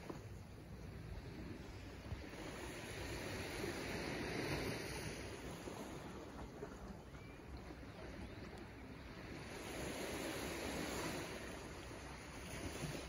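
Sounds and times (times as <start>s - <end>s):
small waves lapping on rocks: 1.2s - 13.0s.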